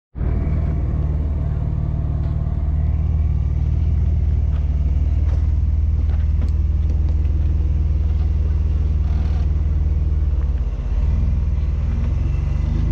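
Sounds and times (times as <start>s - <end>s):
car engine rumbling: 0.1s - 12.9s.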